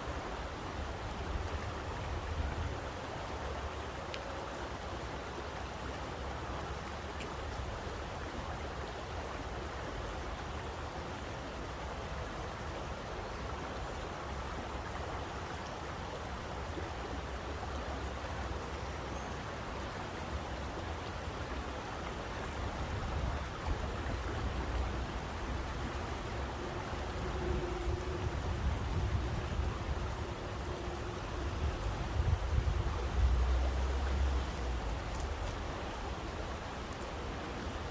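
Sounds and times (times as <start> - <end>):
flowing water rushing: 0.0 - 37.9.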